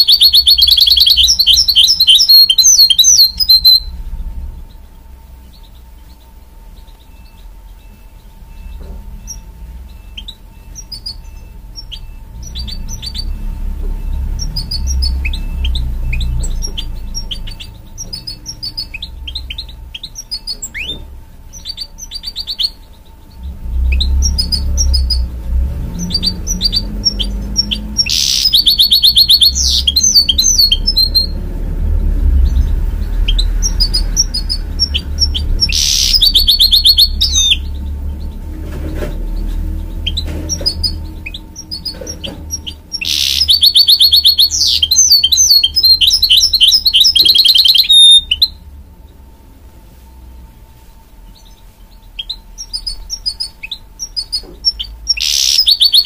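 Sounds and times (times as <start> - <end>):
bird twittering and trilling: 0.0 - 49.2, 51.2 - 56.0
steady low hum: 0.0 - 56.0.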